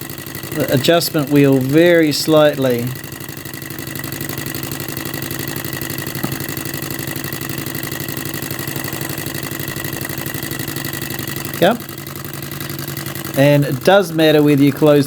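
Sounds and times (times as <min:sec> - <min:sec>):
hot-air engine clattering: 0:00.0 - 0:15.0.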